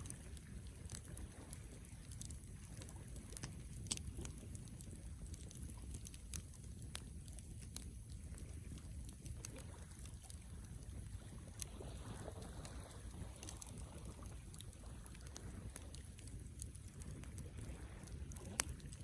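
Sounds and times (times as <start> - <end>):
burning wood crackling and popping: 0.0 - 19.0
campfire flames rumbling: 0.0 - 19.0.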